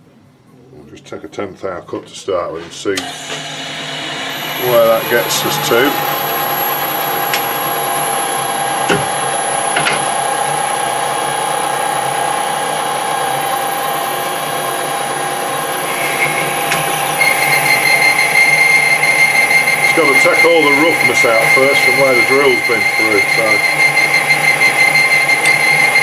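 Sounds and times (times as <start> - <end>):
metal lathe whine: 3.0 - 26.0
high steady tone: 4.3 - 26.0.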